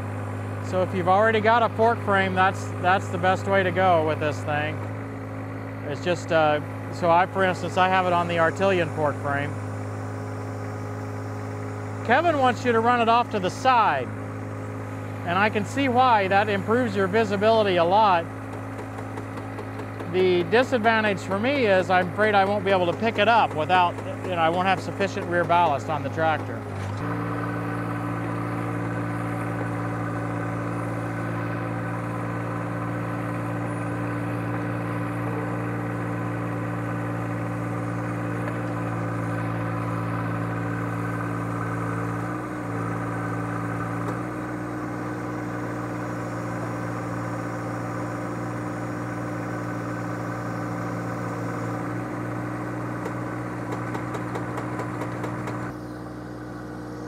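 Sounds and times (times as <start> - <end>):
hydraulic auger boring into soil: 0.0 - 57.0
tractor diesel engine running: 0.0 - 57.0.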